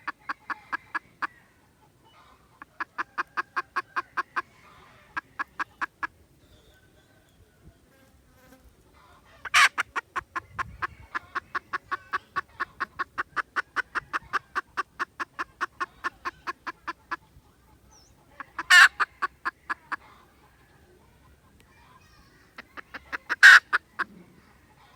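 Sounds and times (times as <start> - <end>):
junglefowl clucking: 0.0 - 6.2, 8.9 - 24.9
loud junglefowl call: 0.0 - 6.2, 8.9 - 24.9.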